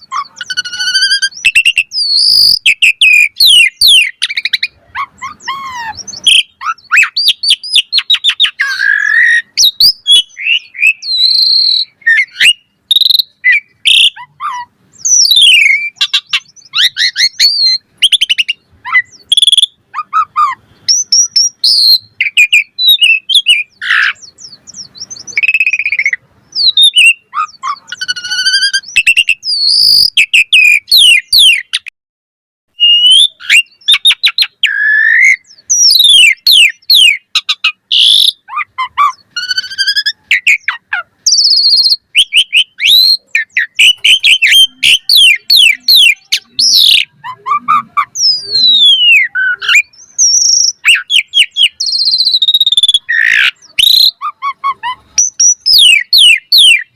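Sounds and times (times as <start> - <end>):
starling singing: 0.0 - 31.9, 32.7 - 56.9.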